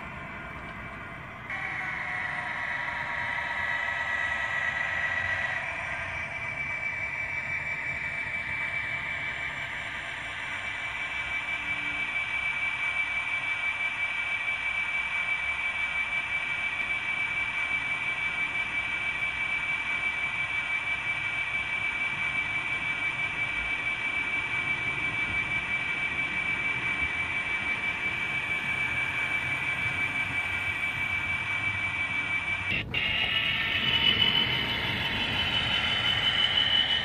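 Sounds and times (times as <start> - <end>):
model train motor whine: 0.0 - 37.0.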